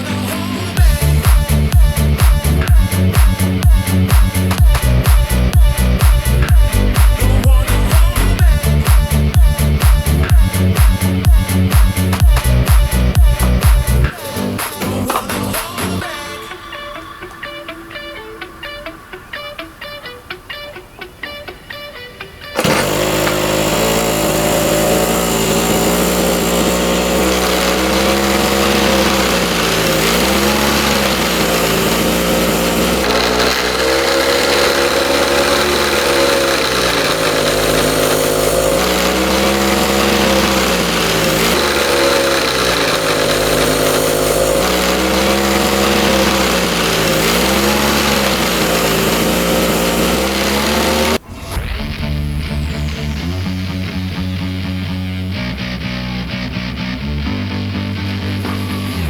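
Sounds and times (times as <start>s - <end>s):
brush cutter engine revving: 0.0s - 16.4s, 22.6s - 59.0s.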